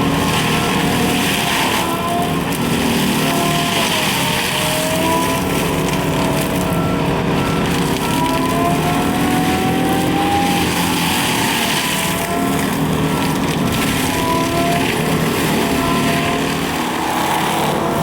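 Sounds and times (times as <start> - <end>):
diesel engine under load: 0.0 - 18.0
hydraulic rotor whine: 0.0 - 18.0.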